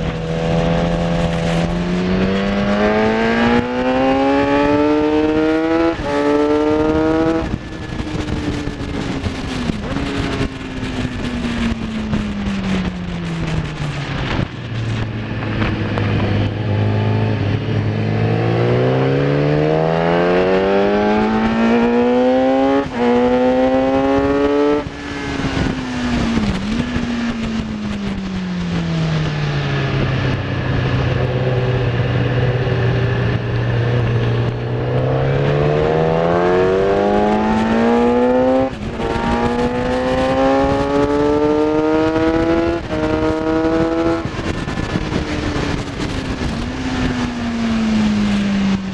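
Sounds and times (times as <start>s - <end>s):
motorcycle engine revving: 0.0s - 48.9s
wind rush: 0.0s - 48.9s.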